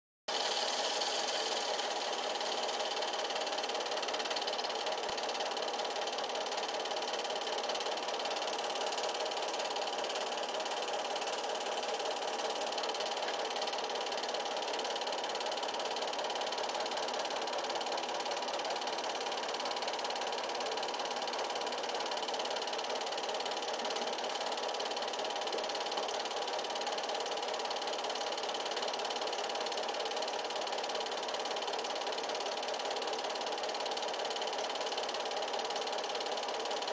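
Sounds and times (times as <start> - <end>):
film projector whirring: 0.3 - 36.9.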